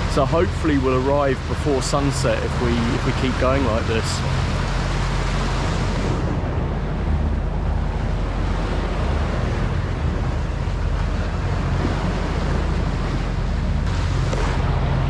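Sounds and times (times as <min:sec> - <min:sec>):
boat engine humming: 0:00.0 - 0:15.0
water rushing along hull: 0:00.0 - 0:15.0
wind on microphone: 0:00.0 - 0:15.0.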